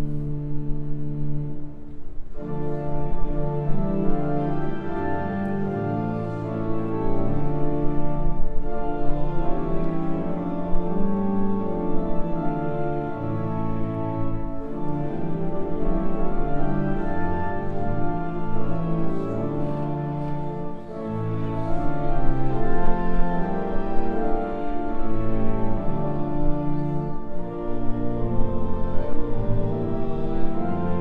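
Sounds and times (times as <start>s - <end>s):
church organ playing a hymn: 0.0s - 31.0s.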